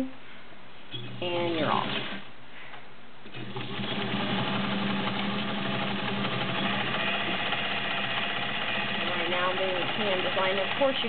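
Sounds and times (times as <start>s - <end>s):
sewing machine stitching: 1.0s - 2.2s, 3.3s - 11.0s.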